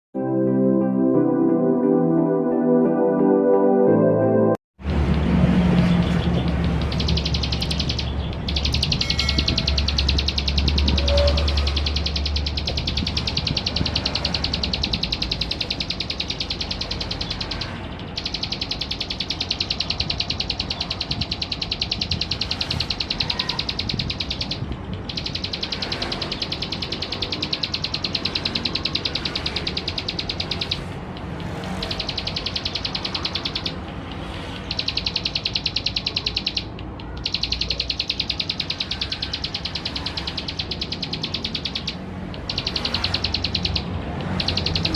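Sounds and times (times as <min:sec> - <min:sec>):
bird singing buzzy notes: 0:05.8 - 0:44.9.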